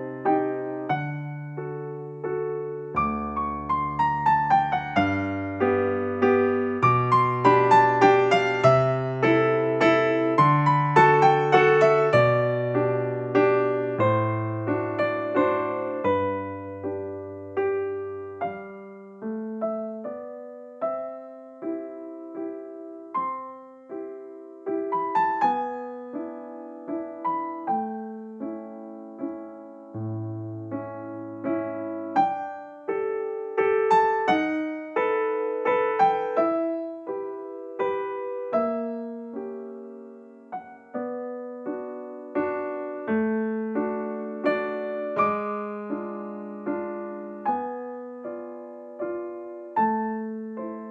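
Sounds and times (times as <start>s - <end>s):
gentle piano music: 0.0s - 50.9s.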